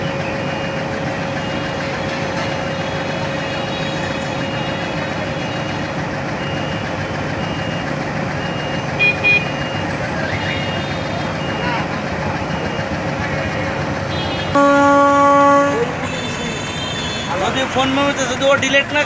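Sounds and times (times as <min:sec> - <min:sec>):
diesel locomotive engine droning: 0:00.0 - 0:19.0.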